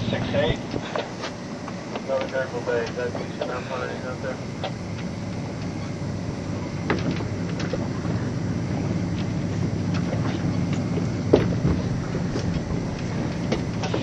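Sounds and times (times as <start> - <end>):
boat engine running: 0.0 - 14.0
water noise: 0.0 - 14.0
wind: 0.0 - 14.0.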